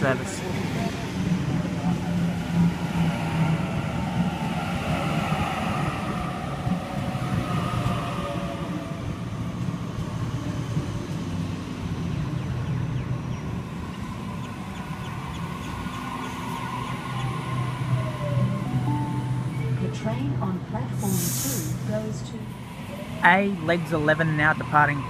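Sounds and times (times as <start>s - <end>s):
electric train whine: 0.0s - 25.0s
train rumbling: 0.0s - 25.0s.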